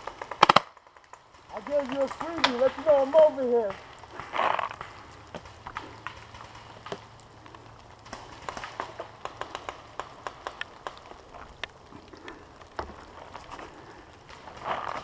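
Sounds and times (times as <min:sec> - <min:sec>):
rain hiss: 0:01.1 - 0:15.0.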